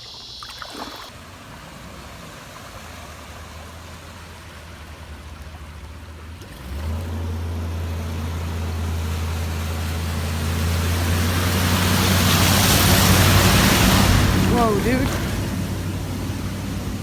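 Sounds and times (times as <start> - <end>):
truck engine humming: 0.0 - 17.0
water rushing: 0.0 - 17.0.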